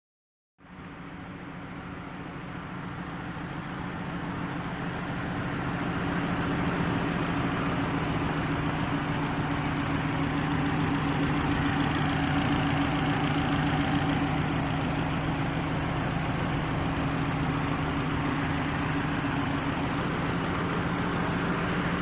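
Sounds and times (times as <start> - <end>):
petrol engine humming: 0.8 - 22.0.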